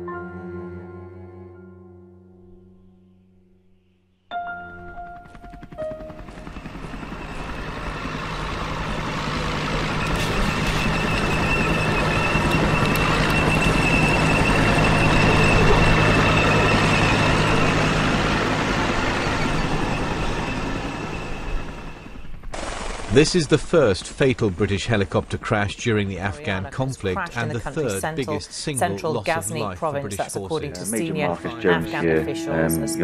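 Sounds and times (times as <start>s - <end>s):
helicopter engine and rotors: 4.5s - 33.0s.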